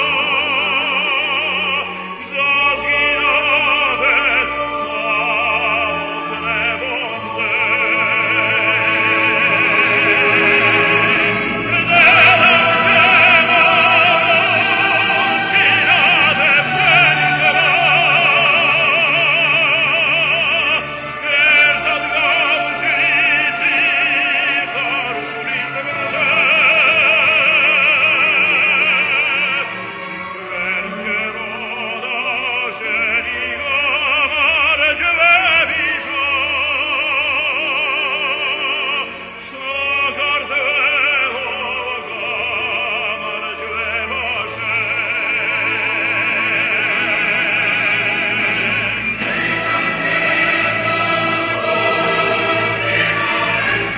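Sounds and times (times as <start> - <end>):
man singing opera: 0.0 - 53.9.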